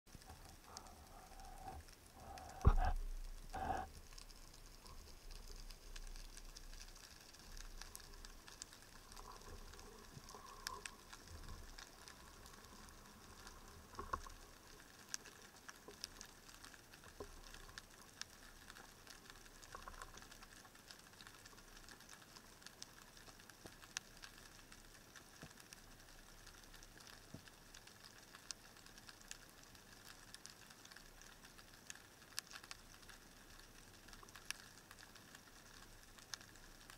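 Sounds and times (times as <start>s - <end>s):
underwater hiss with crackling clicks: 0.1s - 36.9s.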